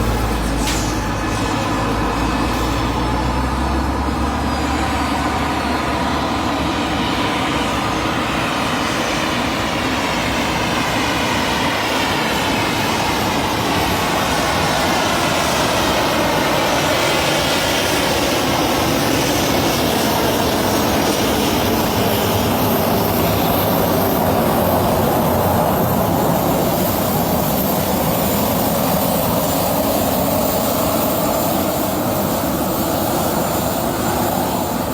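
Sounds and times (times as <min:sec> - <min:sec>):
jet airliner engines: 0:00.0 - 0:34.9.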